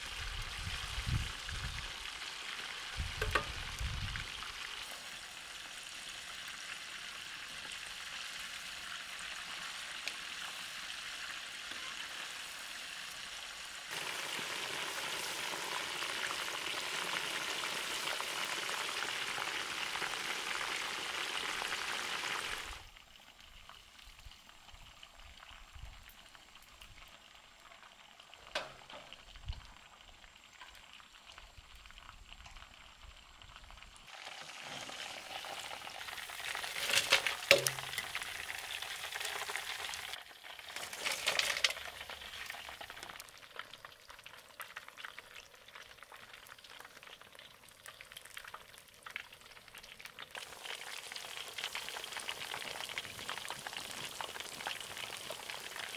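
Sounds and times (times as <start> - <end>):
deep-frying oil sizzling: 0.0 - 55.9.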